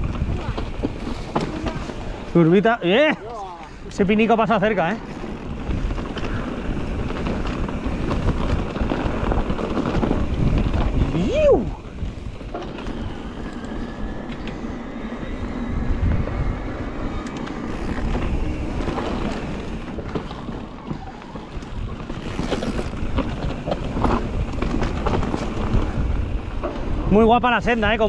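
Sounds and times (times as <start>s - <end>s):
bike knocks and rattles: 0.0s - 2.7s, 4.6s - 14.6s, 17.2s - 28.0s
bike tyre noise: 0.0s - 28.0s
wind buffeting microphone: 0.0s - 28.0s.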